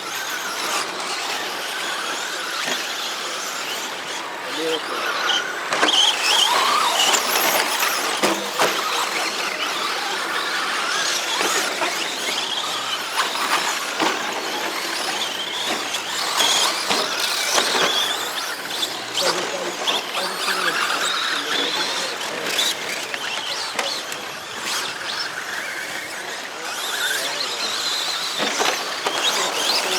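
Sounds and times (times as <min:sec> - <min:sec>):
electric motors whining: 0:00.0 - 0:29.9
tyres scrabbling on dirt: 0:00.0 - 0:29.9.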